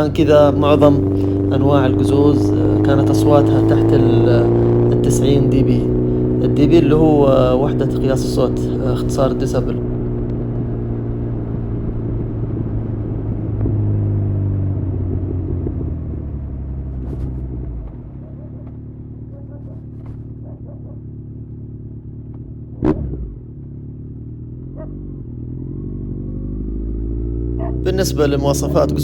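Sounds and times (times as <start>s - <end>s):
motorcycle exhaust drone: 0.0s - 29.0s.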